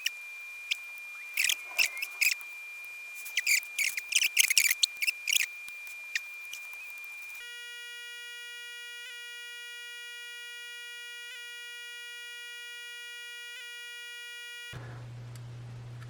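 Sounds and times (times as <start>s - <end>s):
buzzy electronic tone: 0.0s - 14.8s
faint high whine: 0.0s - 14.8s.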